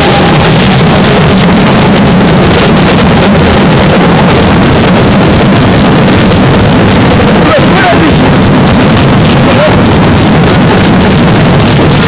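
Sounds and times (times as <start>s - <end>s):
firework fountains hissing and crackling: 0.0s - 12.0s.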